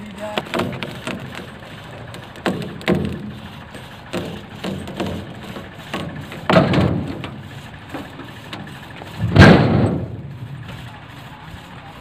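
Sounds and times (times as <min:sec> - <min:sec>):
tractor engine running: 0:00.0 - 0:12.0
tree trunk being dragged: 0:00.0 - 0:12.0
heavy thuds of log landing: 0:00.3 - 0:03.4, 0:04.0 - 0:10.8.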